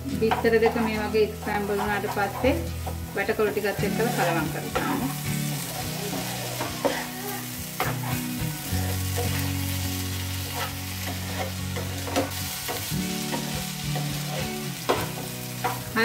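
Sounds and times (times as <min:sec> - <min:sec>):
food sizzling in a frying pan: 0:00.0 - 0:16.0
spatula scraping a pan: 0:00.2 - 0:09.5, 0:10.1 - 0:15.9.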